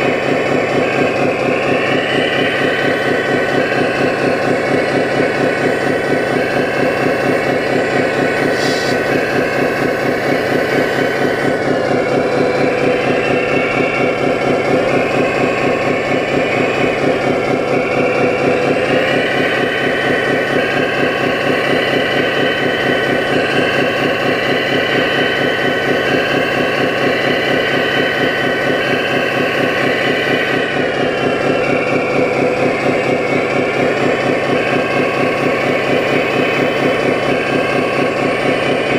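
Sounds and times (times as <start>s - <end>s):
simulated diesel engine running: 0.0s - 38.9s.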